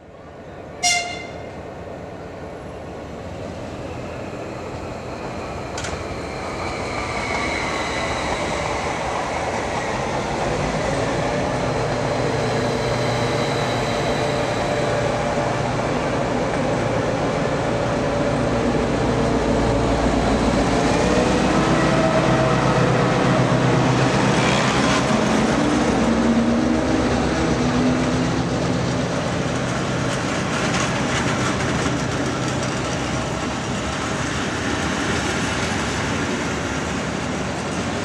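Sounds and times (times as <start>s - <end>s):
diesel locomotive engine running: 0.2s - 38.0s.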